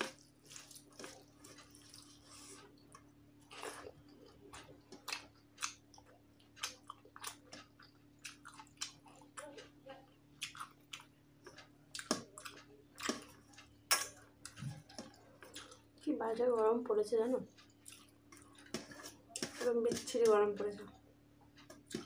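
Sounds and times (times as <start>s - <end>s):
close-mouthed chewing: 0.0s - 9.8s, 10.4s - 16.1s, 17.6s - 20.1s.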